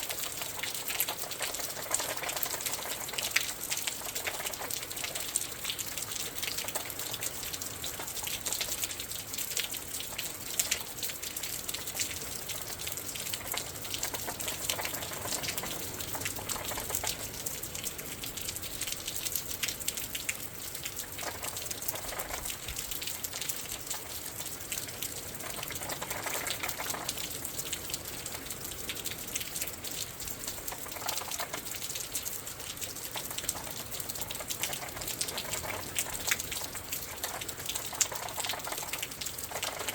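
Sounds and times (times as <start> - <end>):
rain pattering and splashing: 0.0 - 39.9.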